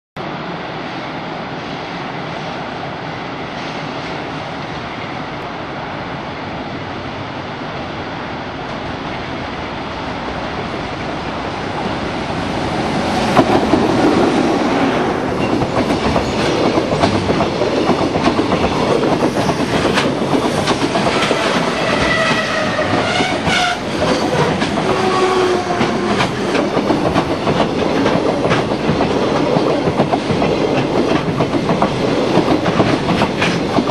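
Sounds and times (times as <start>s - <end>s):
freight train rumble: 0.2s - 33.9s.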